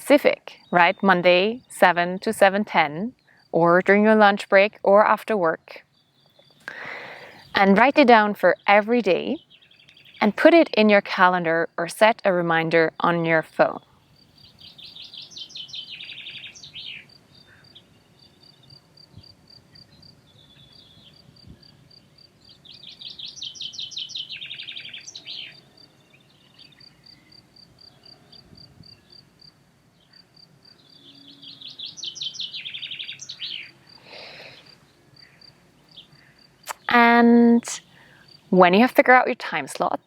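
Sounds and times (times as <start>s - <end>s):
songbird singing trills: 0.0s - 40.0s.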